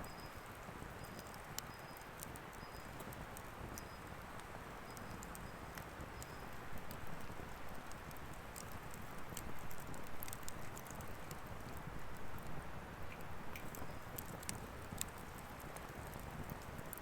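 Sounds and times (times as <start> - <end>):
firewood crackling and popping: 0.1 - 17.0.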